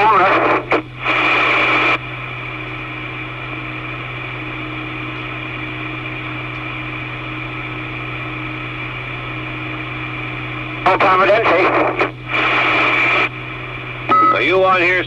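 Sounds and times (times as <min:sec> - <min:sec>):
radio channel hiss and hum: 0:00.0 - 0:15.0.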